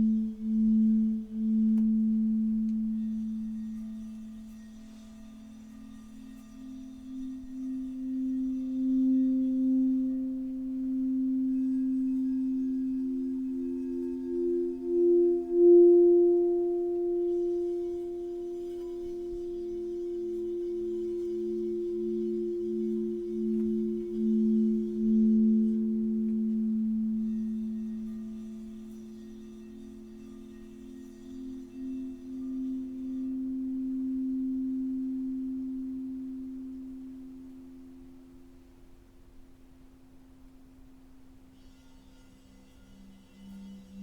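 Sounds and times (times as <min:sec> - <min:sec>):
higher singing bowl tone: 0:00.0 - 0:38.7
low singing bowl tone: 0:00.0 - 0:44.0.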